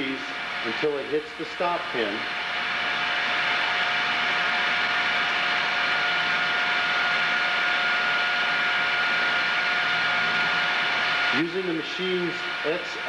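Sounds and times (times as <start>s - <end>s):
grinder motor whining: 0.0s - 13.0s.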